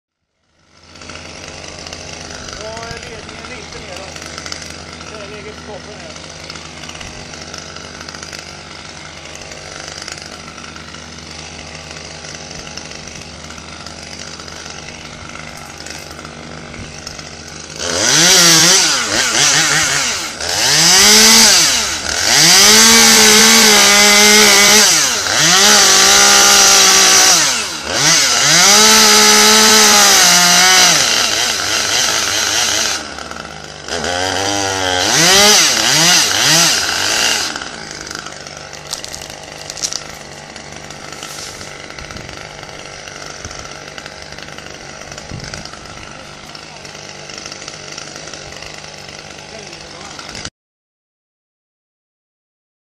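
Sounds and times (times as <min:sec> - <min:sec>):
chainsaw idling: 0:00.2 - 0:50.5
chainsaw revving cutting wood: 0:00.2 - 0:50.5.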